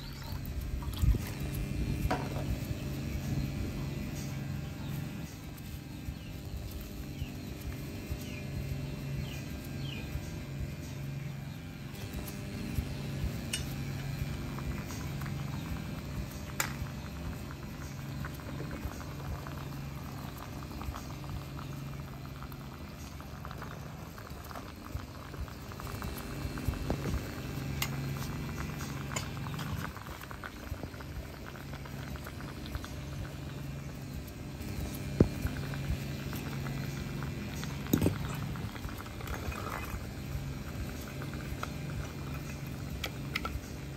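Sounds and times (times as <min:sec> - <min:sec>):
low electrical hum: 0:00.0 - 0:43.9
water boiling in a pan: 0:00.0 - 0:43.9.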